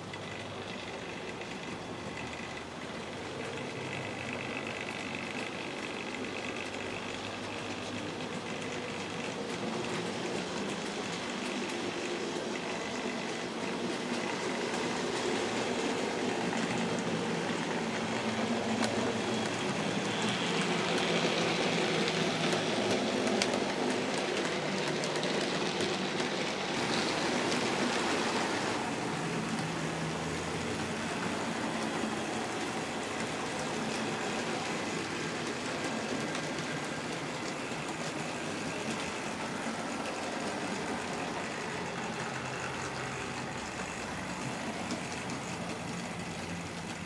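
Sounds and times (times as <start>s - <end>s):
model train rattling on rails: 0.0s - 47.0s.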